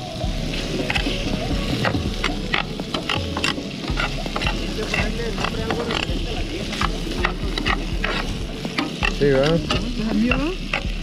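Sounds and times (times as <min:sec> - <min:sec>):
ham sizzling in a frying pan: 0:00.0 - 0:11.0
metal spoon scraping a pan: 0:00.5 - 0:11.0.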